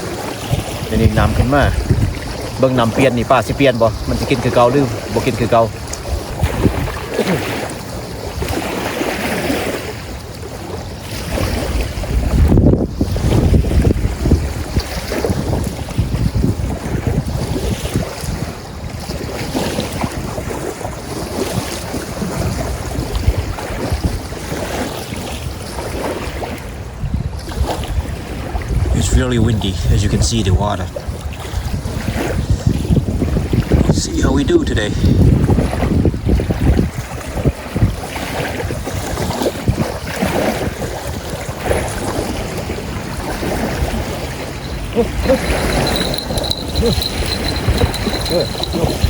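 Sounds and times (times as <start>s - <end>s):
river water splashing: 0.0s - 28.7s, 30.8s - 33.9s, 35.2s - 49.0s
wind buffeting microphone: 0.0s - 49.0s.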